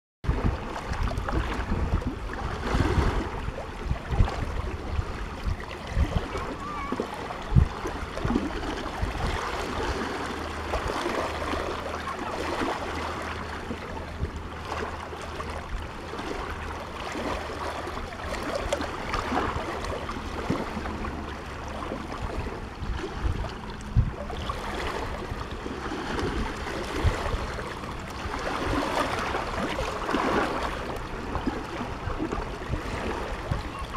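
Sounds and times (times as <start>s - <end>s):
low thumps of water: 0.3s - 33.9s
waves lapping against rocks: 0.3s - 33.9s.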